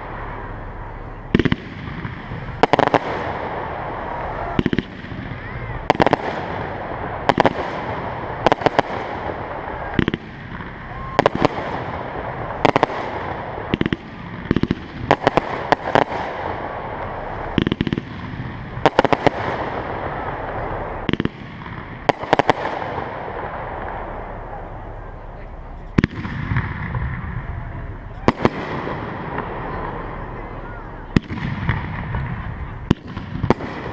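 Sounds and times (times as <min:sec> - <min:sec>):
fireworks bangs and cracks: 0:00.0 - 0:33.9.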